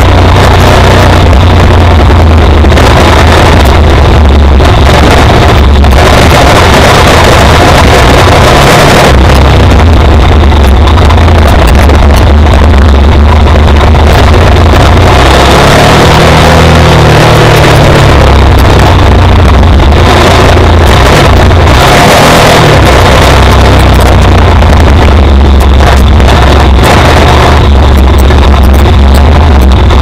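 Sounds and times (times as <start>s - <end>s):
motorcycle engine running loudly: 0.0s - 30.0s.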